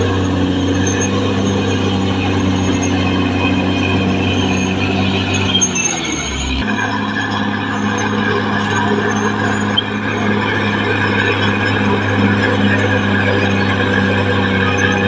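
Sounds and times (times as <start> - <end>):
bulldozer diesel engine running: 0.0 - 15.0
rattle of tracks: 0.0 - 15.0.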